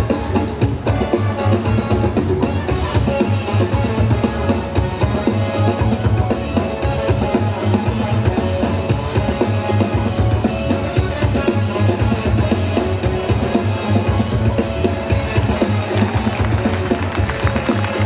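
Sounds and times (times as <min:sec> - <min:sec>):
drum kit beat: 0:00.0 - 0:18.0.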